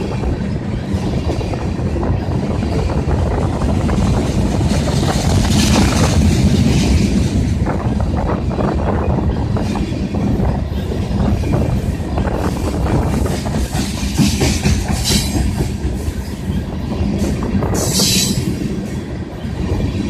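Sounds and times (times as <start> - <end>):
train cars rumbling past: 0.0 - 20.0
wind buffeting microphone: 0.0 - 20.0.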